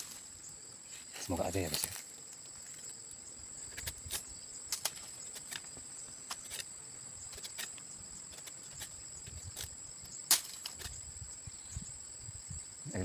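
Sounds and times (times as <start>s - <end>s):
high insect buzz: 0.0s - 13.0s.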